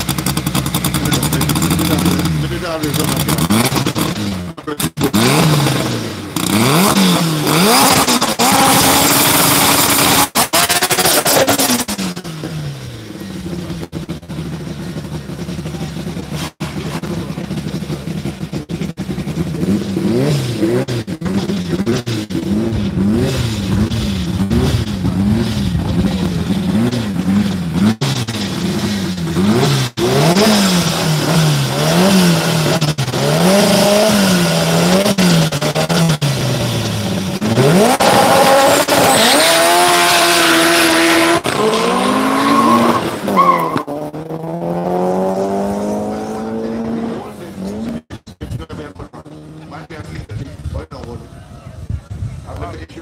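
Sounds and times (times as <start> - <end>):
racing car engine at full throttle: 0.0 - 53.0.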